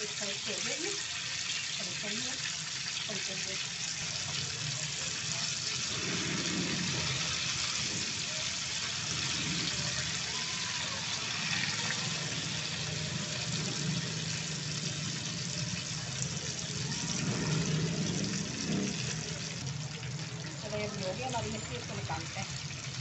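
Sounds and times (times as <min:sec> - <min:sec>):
fish deep-frying in oil: 0:00.0 - 0:23.0.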